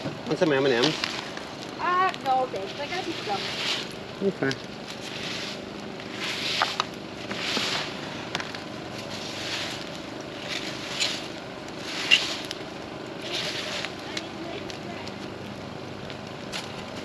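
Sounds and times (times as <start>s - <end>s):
wood fire crackling: 0.0s - 17.0s
rake scraping through leaves: 0.5s - 12.6s, 13.2s - 15.2s.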